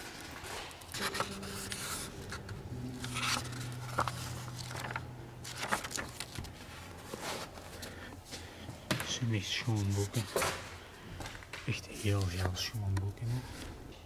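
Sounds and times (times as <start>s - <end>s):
book pages rustling: 0.0s - 10.7s, 11.4s - 13.8s.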